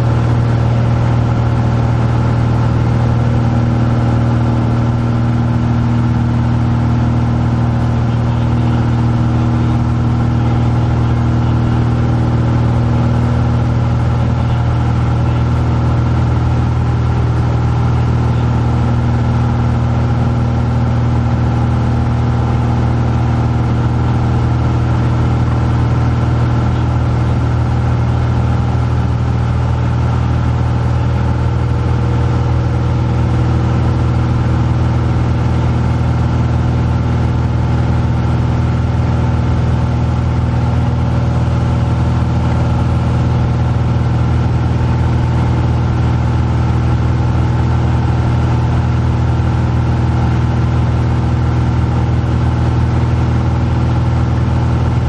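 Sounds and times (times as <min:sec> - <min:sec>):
light aircraft engine and propeller: 0:00.0 - 0:55.0.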